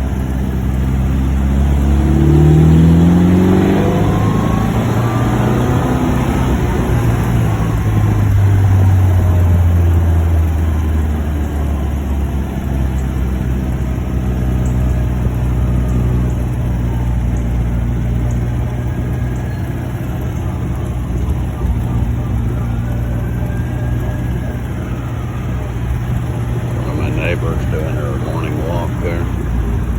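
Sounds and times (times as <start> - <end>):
car engine heard from inside: 0.0 - 29.9.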